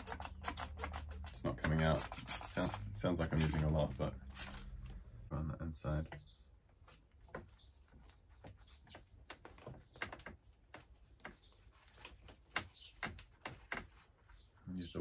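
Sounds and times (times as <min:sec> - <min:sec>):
rubber grip squeaks and clicks: 0:00.0 - 0:04.9, 0:06.8 - 0:14.6.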